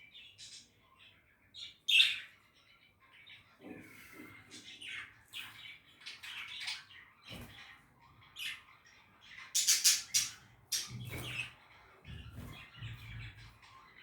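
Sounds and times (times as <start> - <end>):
budgerigars chirping: 1.6 - 3.5, 4.1 - 14.0.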